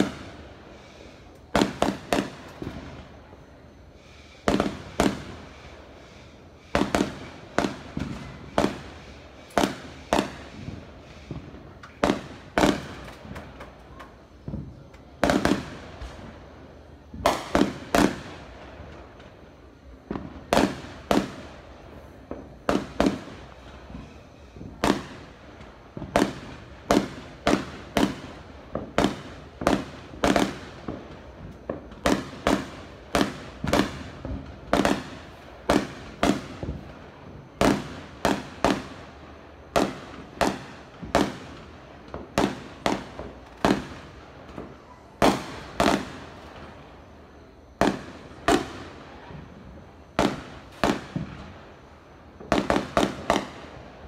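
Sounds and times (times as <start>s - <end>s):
distant fireworks bangs: 0.0s - 54.0s.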